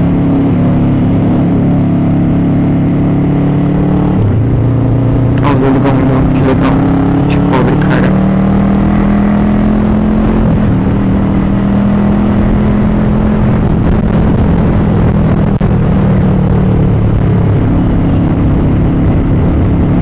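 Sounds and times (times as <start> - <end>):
motorcycle engine running: 0.0 - 20.0
road noise: 0.0 - 20.0.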